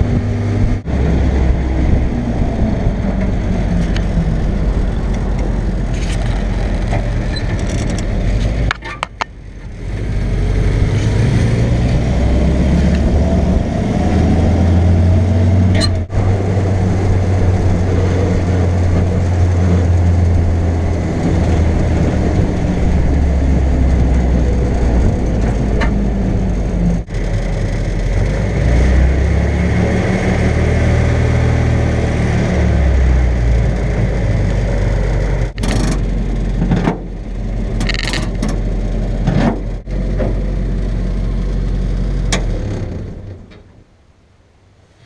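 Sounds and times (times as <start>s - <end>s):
jeep engine droning: 0.0s - 44.1s.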